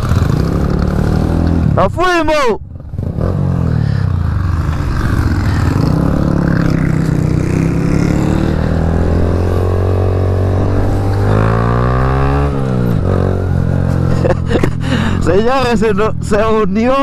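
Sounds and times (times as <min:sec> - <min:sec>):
small motorcycle engine revving: 0:00.0 - 0:01.8, 0:02.8 - 0:14.8.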